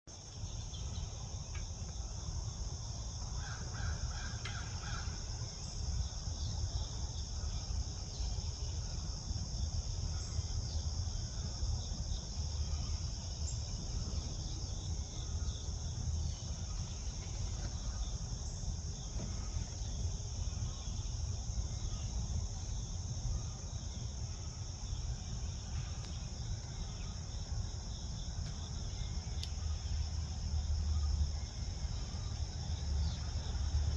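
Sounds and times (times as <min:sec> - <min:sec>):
high insect drone: 0:00.1 - 0:33.9.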